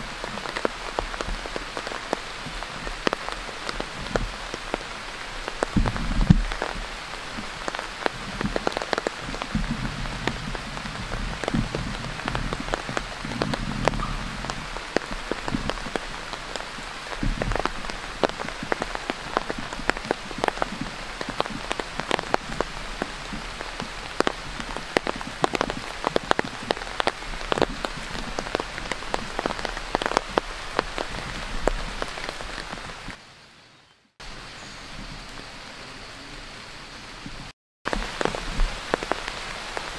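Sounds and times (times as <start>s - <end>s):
raindrops ticking on surface: 0.0s - 33.2s, 34.2s - 39.9s
steady rain: 0.0s - 39.9s.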